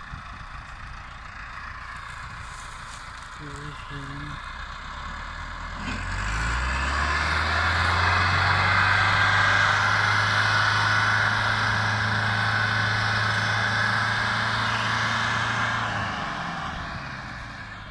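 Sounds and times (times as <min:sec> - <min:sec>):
tractor diesel engine working hard: 0:00.0 - 0:17.9.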